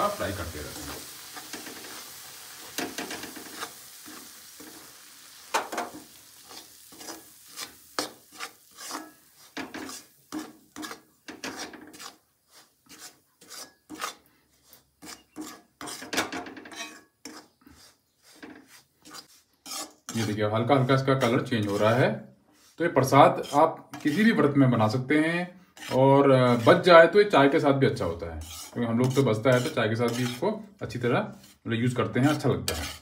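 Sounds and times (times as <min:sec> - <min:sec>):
faint sizzle of fat: 0:00.0 - 0:15.9, 0:16.7 - 0:33.0
spatula scraping steel pan: 0:00.2 - 0:24.5, 0:25.7 - 0:27.0, 0:27.9 - 0:33.0.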